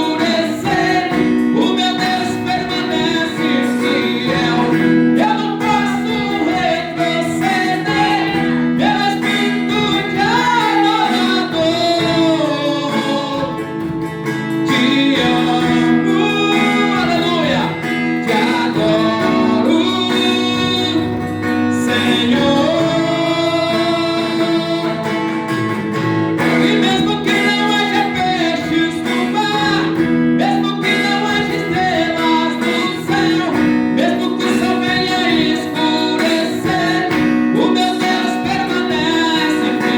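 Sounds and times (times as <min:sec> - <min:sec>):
person singing: 0:00.0 - 0:39.9
strummed acoustic guitar: 0:00.0 - 0:39.9.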